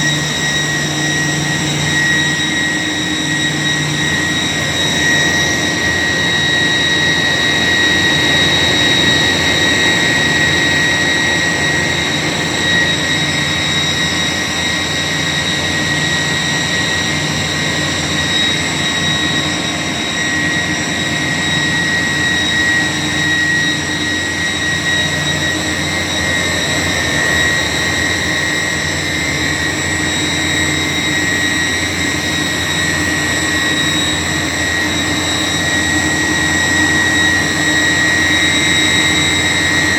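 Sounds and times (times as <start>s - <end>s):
chiller rushing hum: 0.0s - 39.9s
compressor high-pitched whine: 0.0s - 39.9s.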